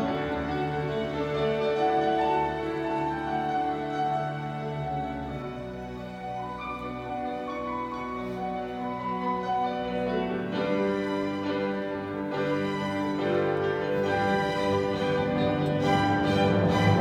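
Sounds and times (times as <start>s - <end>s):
bowed strings: 0.0s - 17.0s
grand piano: 0.0s - 17.0s.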